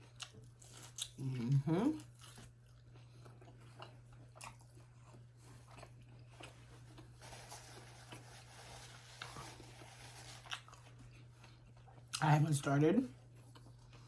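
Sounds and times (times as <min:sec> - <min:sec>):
close-up chewing: 0:00.0 - 0:14.0
low steady hum: 0:00.0 - 0:14.0.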